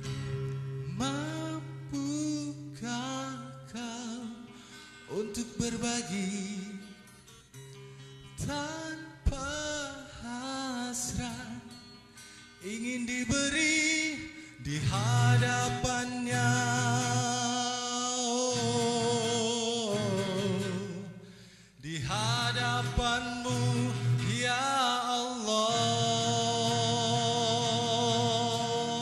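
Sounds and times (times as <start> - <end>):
acoustic guitar: 0.0 - 29.0
man singing: 0.9 - 7.1, 8.3 - 11.8, 12.6 - 29.0.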